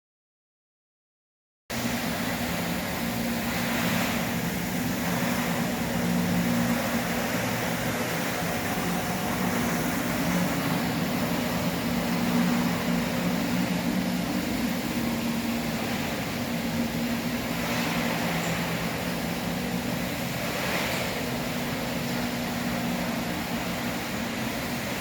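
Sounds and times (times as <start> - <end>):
floor-cleaning machine running: 1.7 - 25.0.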